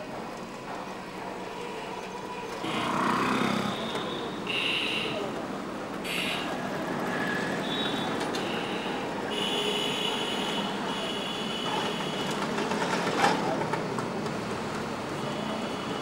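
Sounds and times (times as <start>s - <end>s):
rumble of vehicles: 0.0s - 16.0s.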